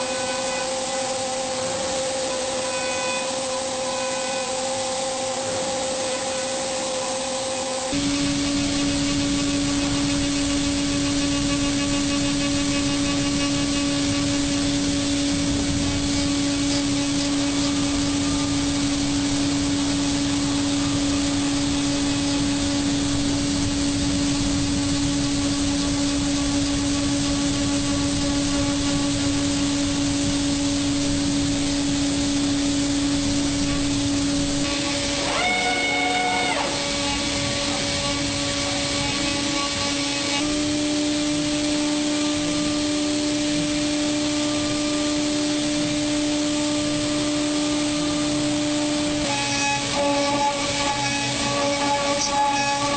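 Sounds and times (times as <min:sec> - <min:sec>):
machine droning hum and hiss: 0:00.0 - 0:52.9.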